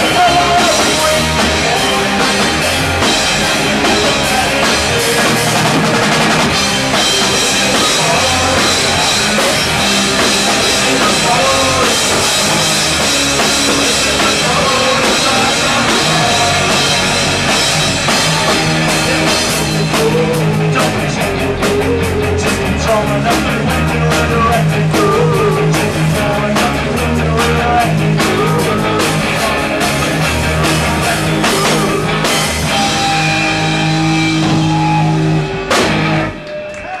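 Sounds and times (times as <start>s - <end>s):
person singing: 0.0s - 5.9s, 6.9s - 35.5s, 36.3s - 37.0s
bass guitar: 0.0s - 37.0s
drum kit: 0.0s - 37.0s
electric guitar: 0.0s - 37.0s.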